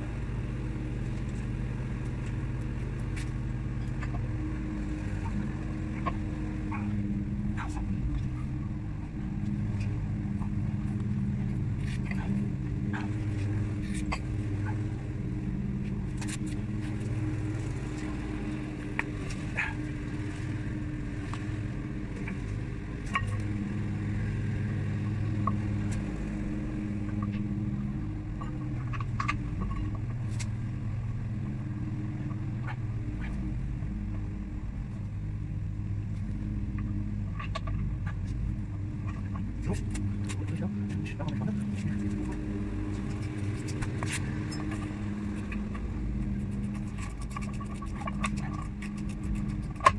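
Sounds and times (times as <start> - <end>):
car engine running: 0.0 - 49.9
road noise: 0.0 - 49.9
faint clicks and knocks: 0.5 - 49.9.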